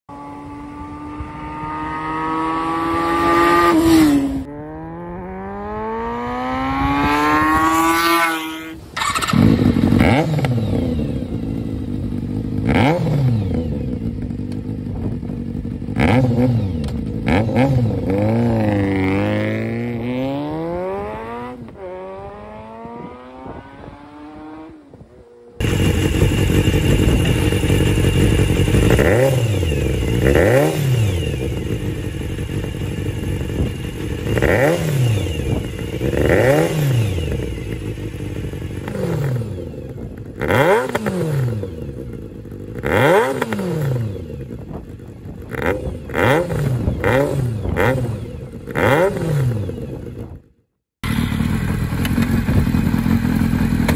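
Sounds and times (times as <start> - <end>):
motorcycle engine idling and revving: 0.0 - 53.9.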